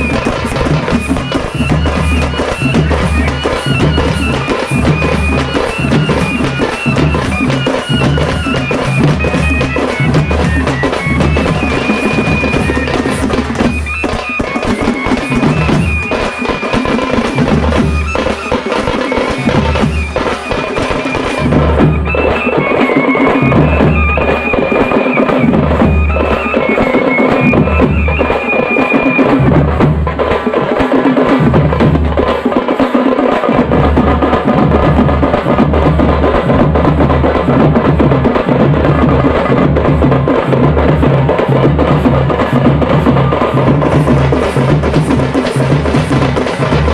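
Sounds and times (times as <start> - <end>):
shrill reed-like melody: 0.0 - 30.0, 38.4 - 46.9
drumming with heavy bass beat: 0.0 - 46.9.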